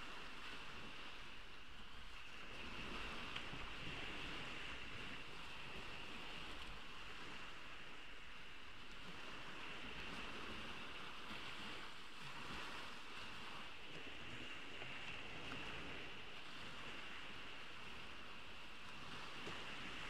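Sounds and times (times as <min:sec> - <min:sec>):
ocean waves washing onto beach: 0:00.0 - 0:20.0.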